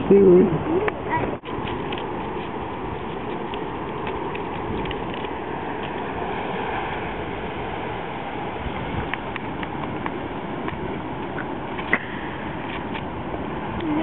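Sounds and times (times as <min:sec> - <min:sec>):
ocean surf: 0:00.0 - 0:14.0
wind on microphone: 0:00.0 - 0:14.0.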